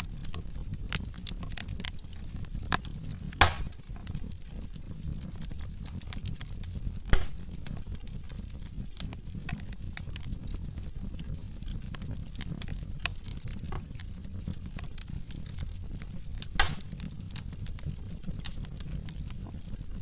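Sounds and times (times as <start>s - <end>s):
low rumble of flame: 0.0s - 20.0s
wood fire crackling: 0.0s - 20.0s.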